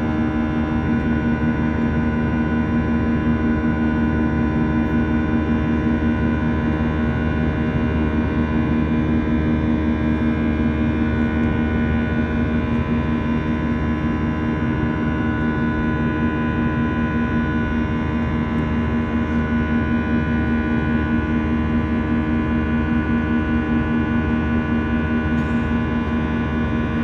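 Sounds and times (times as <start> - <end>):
jet engines droning in cabin: 0.0 - 27.0.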